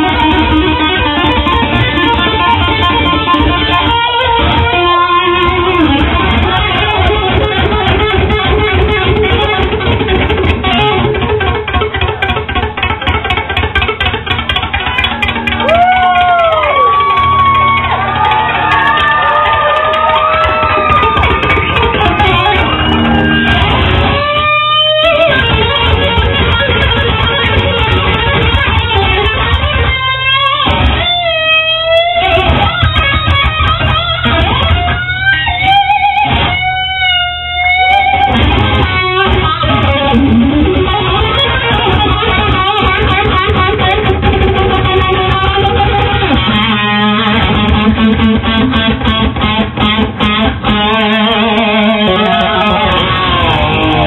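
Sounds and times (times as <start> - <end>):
drums: 0.0 - 54.0
electric guitar lead notes: 0.0 - 54.0.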